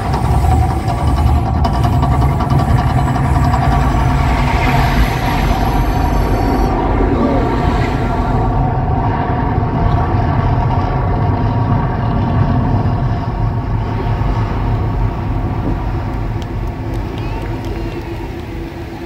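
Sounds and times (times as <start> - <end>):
deep steady rumble: 0.0 - 19.0
faint sustained tones: 2.3 - 19.0.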